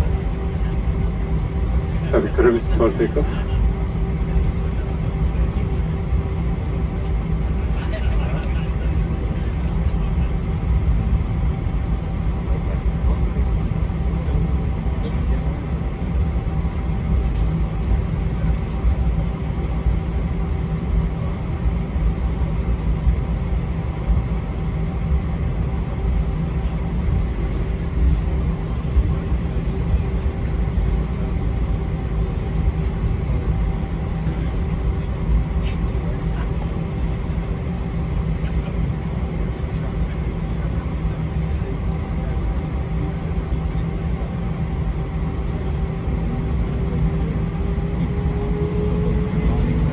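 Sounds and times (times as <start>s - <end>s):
airliner cabin engine drone: 0.0s - 49.9s.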